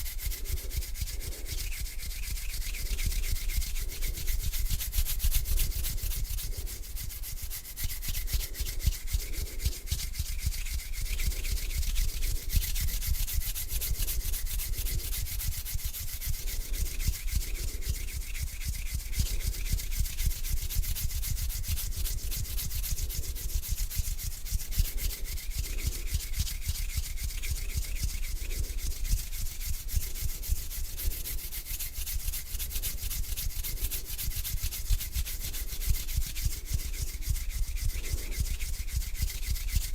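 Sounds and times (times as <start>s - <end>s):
hands rubbing together: 0.0s - 39.9s.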